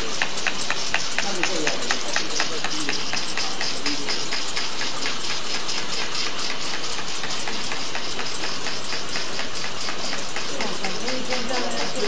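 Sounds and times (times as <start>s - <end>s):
machine humming and clattering: 0.0s - 12.0s.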